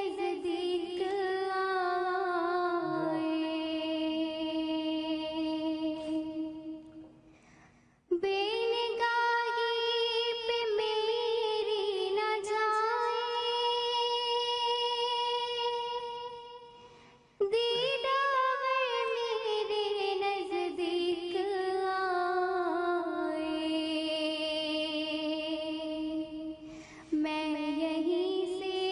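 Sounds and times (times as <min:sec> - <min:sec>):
high voice singing devotional song: 0:00.0 - 0:07.4, 0:08.1 - 0:28.9.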